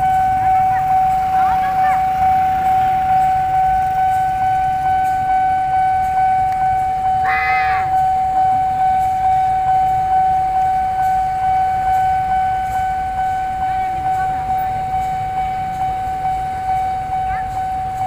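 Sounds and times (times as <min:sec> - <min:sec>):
pulsing electronic alarm tone: 0:00.0 - 0:18.0.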